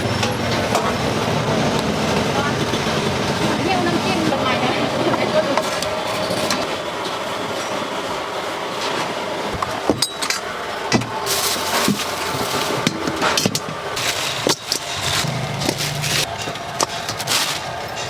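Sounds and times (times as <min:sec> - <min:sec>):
noisy background: 0:00.0 - 0:18.0.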